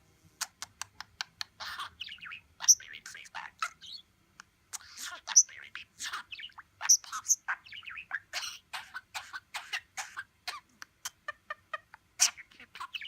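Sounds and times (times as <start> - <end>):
budgerigar chattering: 1.4 - 4.0, 4.7 - 13.0.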